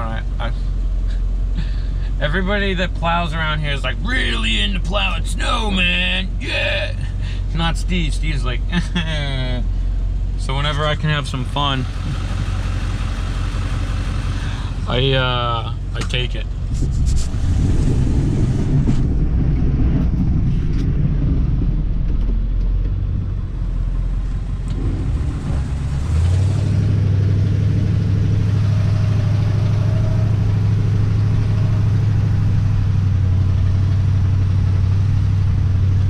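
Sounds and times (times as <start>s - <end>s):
pickup engine running: 0.0s - 36.0s.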